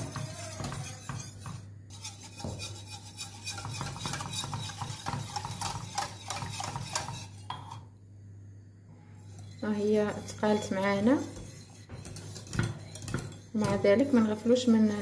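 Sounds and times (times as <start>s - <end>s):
whisk clinking against pot: 0.0s - 7.8s, 9.3s - 14.5s
steady low hum: 0.3s - 15.0s.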